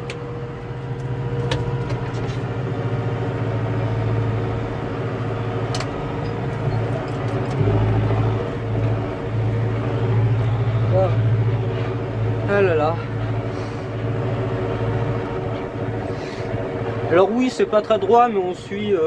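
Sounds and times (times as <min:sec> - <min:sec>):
tractor diesel engine: 0:00.0 - 0:19.0
deep loud rumble: 0:01.2 - 0:17.7.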